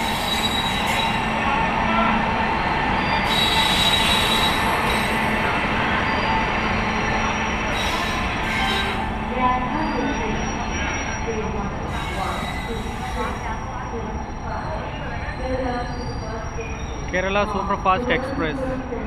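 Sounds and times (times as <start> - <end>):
high wheel squeal: 0.0 - 1.4, 3.0 - 17.1
train rolling rumble: 0.0 - 19.0.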